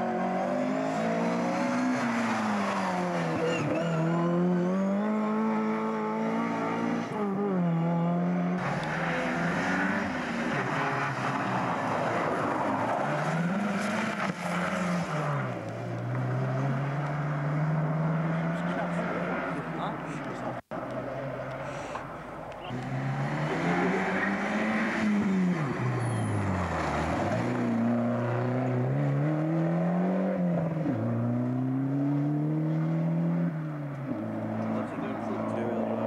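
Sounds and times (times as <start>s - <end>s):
rally car engines revving: 0.0s - 21.7s, 22.6s - 36.0s.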